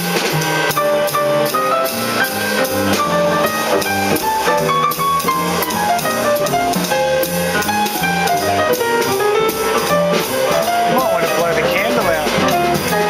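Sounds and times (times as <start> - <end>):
bass: 0.0 - 13.0
drum kit: 0.0 - 13.0
piano: 0.0 - 13.0.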